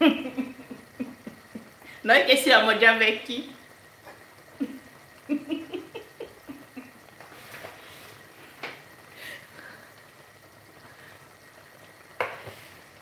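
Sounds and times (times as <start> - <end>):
sauce bubbling in a pot: 0.0 - 13.0.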